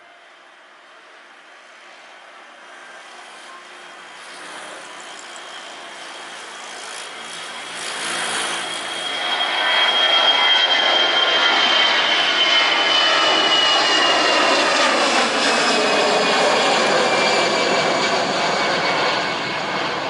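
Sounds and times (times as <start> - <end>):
high engine whine: 0.1 - 20.0
jet engines roaring: 0.2 - 20.0.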